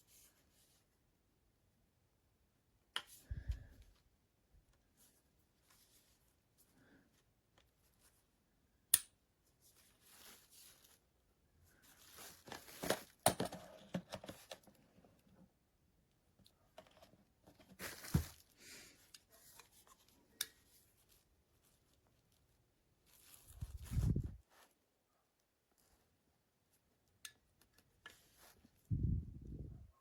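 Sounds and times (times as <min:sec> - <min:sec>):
rustling and crinkling handling noise: 0:03.2 - 0:08.5, 0:09.4 - 0:28.9.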